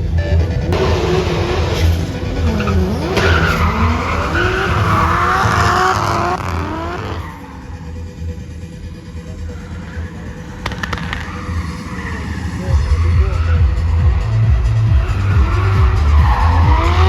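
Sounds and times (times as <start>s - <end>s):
car engine revving: 0.0s - 17.0s
tyres squealing: 0.7s - 8.2s, 9.2s - 17.0s.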